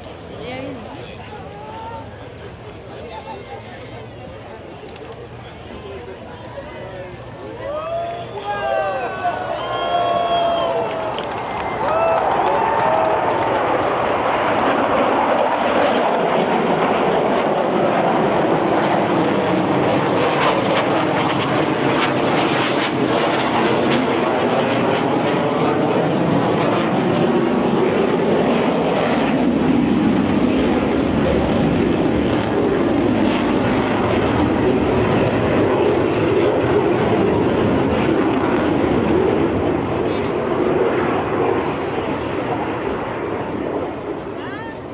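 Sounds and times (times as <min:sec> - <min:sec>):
aircraft engine noise overhead: 0:00.0 - 0:44.9.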